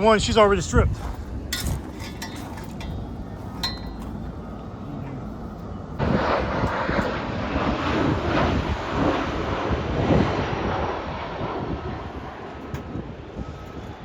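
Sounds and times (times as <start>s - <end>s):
distant jet aircraft rumble: 0.0s - 14.0s
wind noise on microphone: 0.0s - 14.0s.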